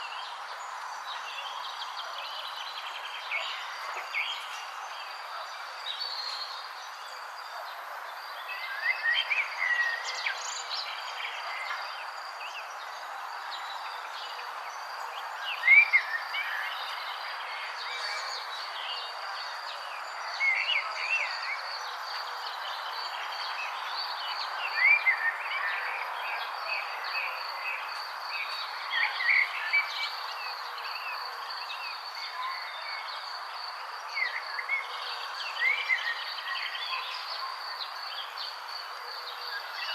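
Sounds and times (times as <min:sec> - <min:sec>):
soft outdoor hiss: 0:00.0 - 0:39.9
songbirds chirping: 0:00.0 - 0:39.9.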